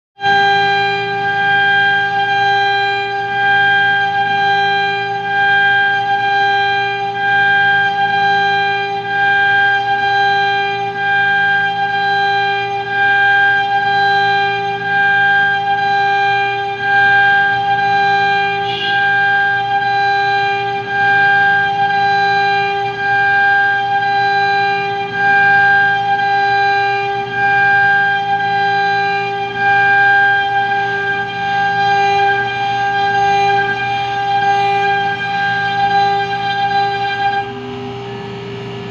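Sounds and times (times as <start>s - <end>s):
loud steady droning tone: 0.2s - 38.9s.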